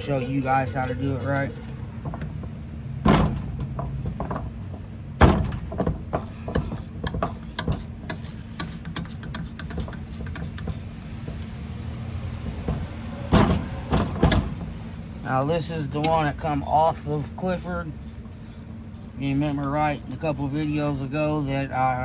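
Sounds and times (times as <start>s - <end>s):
hand tools clanking on metal: 0.0s - 2.5s, 3.1s - 11.5s, 12.1s - 22.0s
steady low hum: 0.0s - 22.0s.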